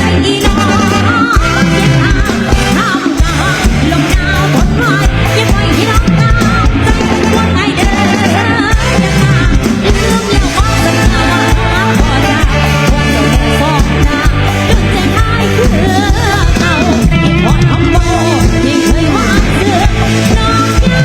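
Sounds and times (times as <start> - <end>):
bass line: 0.0 - 21.0
live band music: 0.0 - 21.0
ornamented lead melody: 0.0 - 21.0
steady drum beat: 0.0 - 21.0.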